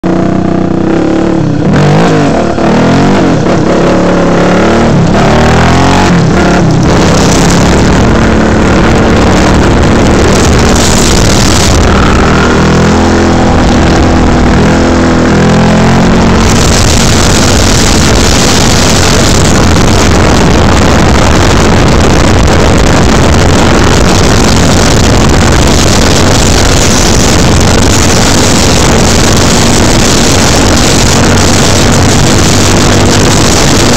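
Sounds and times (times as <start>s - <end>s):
atv engine revving: 0.0s - 33.9s
loud rush of noise: 0.0s - 33.9s.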